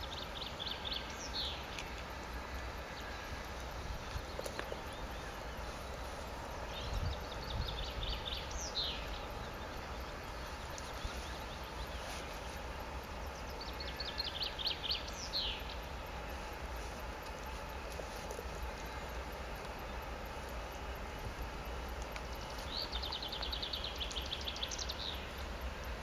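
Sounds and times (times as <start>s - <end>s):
low steady rumble: 0.0s - 26.0s
songbird singing: 0.0s - 26.0s.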